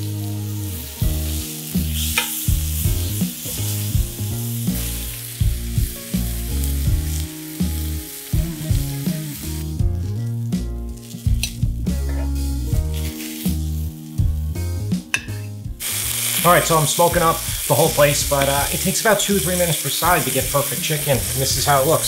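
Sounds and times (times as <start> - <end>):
meat sizzling in hot oil: 0.0 - 15.1, 15.8 - 22.0
background music with beat: 0.0 - 22.0.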